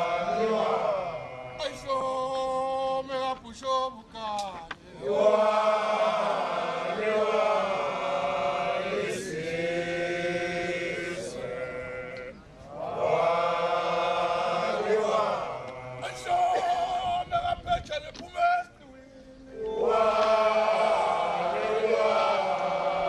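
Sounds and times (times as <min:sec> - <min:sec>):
group of voices chanting: 0:00.0 - 0:02.8, 0:04.8 - 0:17.4, 0:19.2 - 0:23.0.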